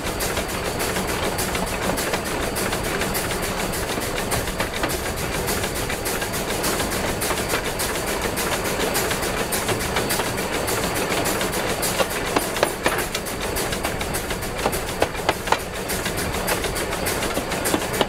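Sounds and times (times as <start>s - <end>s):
steam locomotive running gear clatter: 0.0s - 18.0s.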